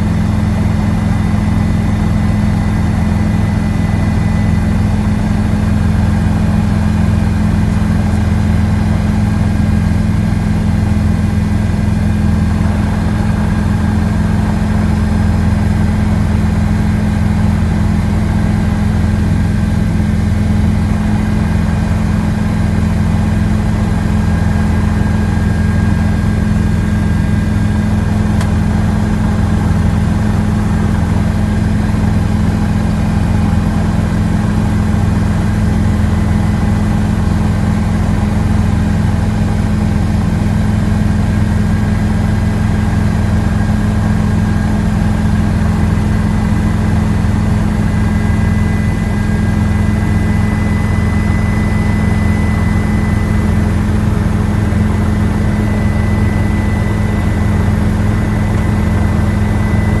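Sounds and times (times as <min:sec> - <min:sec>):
faint constant whine: 0:00.0 - 1:00.0
helicopter engine and rotor drone: 0:00.0 - 1:00.0.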